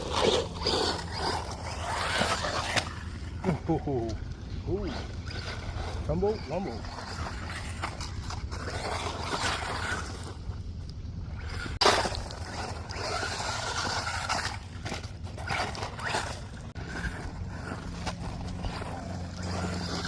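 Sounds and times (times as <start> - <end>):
rc car electric motor whining: 0.0 - 10.5, 11.3 - 20.0
tyre noise: 0.0 - 20.0.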